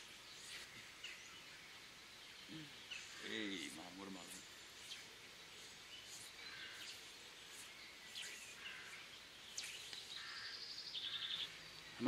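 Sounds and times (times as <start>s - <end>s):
birds chirping and whistling: 0.0s - 12.0s
quiet outdoor hiss: 0.0s - 12.0s.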